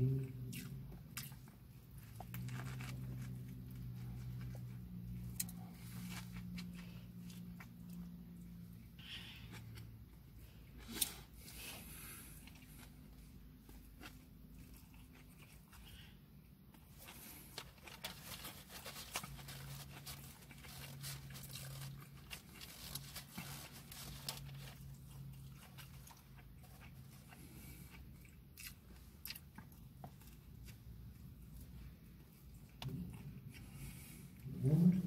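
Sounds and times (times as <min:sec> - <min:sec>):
low steady hum: 0:00.0 - 0:35.0
person chewing and biting: 0:00.2 - 0:10.0, 0:10.7 - 0:31.7.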